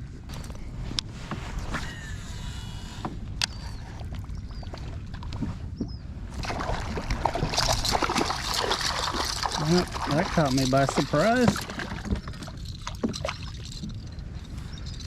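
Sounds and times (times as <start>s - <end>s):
water splashing around kayak: 0.3s - 14.7s.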